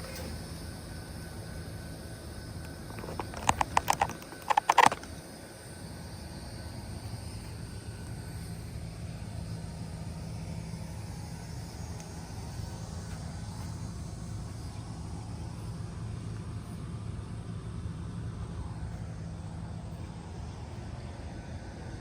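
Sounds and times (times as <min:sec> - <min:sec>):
heat pump running: 0:00.0 - 0:22.0.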